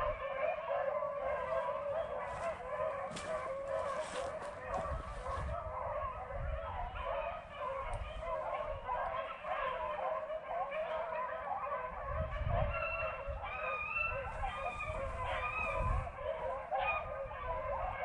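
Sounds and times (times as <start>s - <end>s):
hounds baying and yelping: 0.0s - 18.0s.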